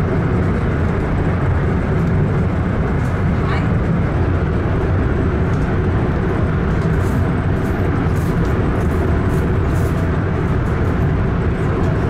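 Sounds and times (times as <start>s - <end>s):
train rumbling in tunnel: 0.0s - 12.0s.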